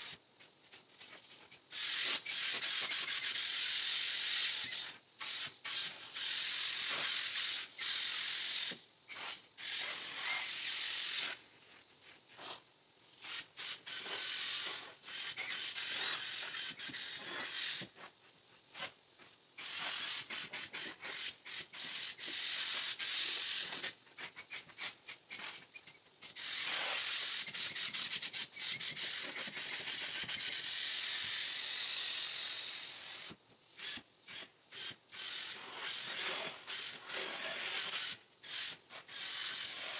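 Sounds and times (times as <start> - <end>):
vacuum hose suction hiss: 0.0 - 32.2, 33.0 - 39.9.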